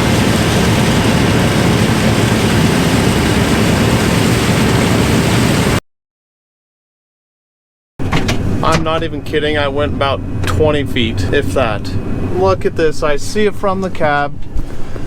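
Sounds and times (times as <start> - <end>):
combine harvester rushing noise: 0.0 - 5.8, 8.0 - 15.0.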